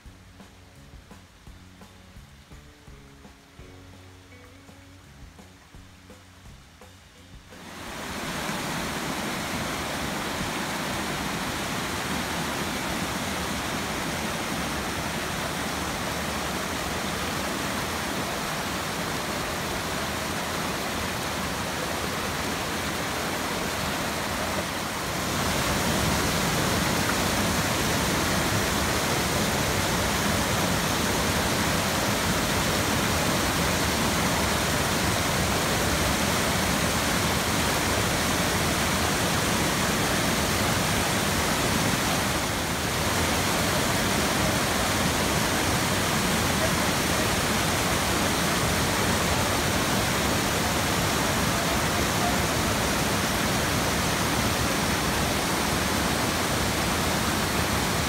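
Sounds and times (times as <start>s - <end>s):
stream and waterfall rushing: 0.0s - 58.0s.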